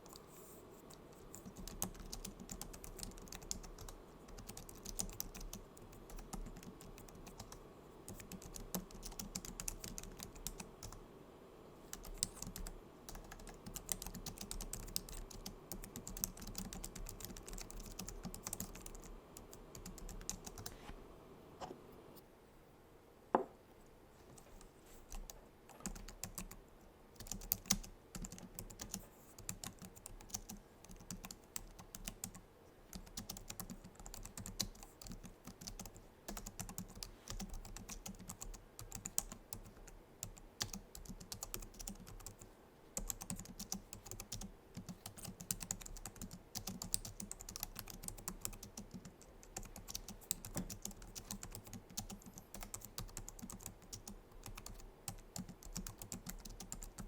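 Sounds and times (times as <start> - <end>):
keyboard typing: 0.0 - 11.0, 11.9 - 20.8, 24.6 - 26.6, 27.2 - 57.0.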